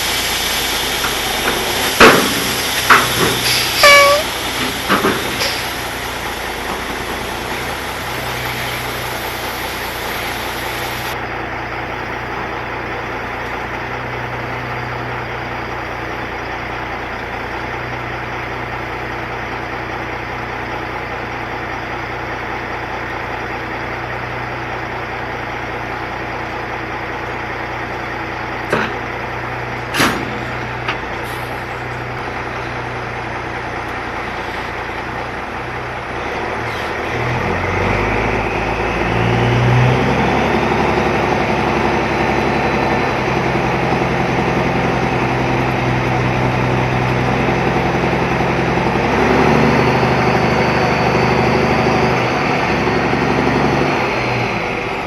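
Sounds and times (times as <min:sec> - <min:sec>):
heavy truck engine running: 0:00.0 - 0:55.0.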